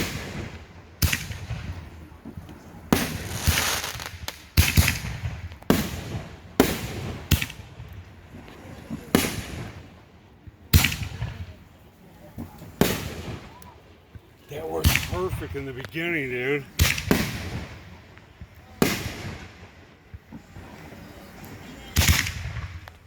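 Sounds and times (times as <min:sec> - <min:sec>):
fireworks booming: 0:00.0 - 0:23.0
fireworks crackling: 0:00.0 - 0:23.0.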